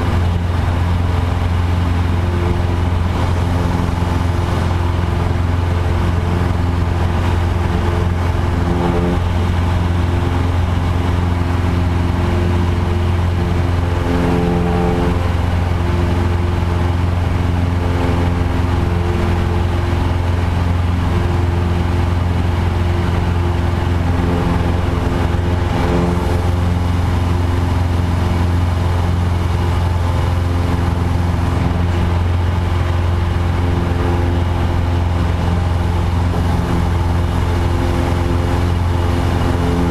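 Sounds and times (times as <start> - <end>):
light aircraft engine running: 0.0 - 39.9.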